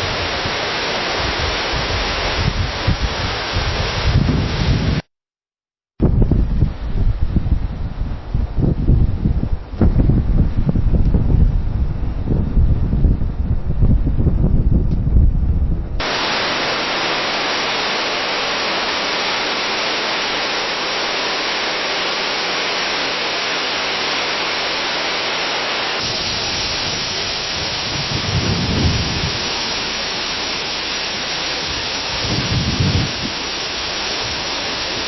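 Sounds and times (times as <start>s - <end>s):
leaves rustling in wind: 0.0s - 5.0s, 6.0s - 35.0s
low wind gusts: 0.0s - 5.1s, 6.0s - 35.0s.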